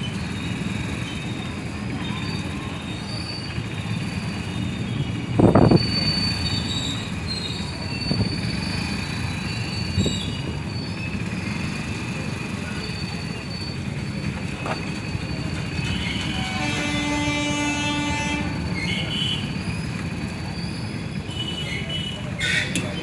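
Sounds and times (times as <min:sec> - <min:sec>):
high wheel squeals: 0:00.0 - 0:23.0
train wheels rumbling on rail: 0:00.0 - 0:23.0.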